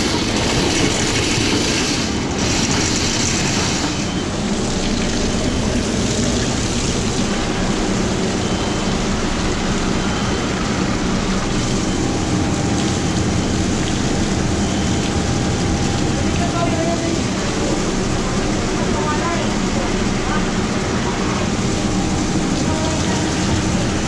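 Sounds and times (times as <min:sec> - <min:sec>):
drain cleaning machine running: 0:00.0 - 0:24.0.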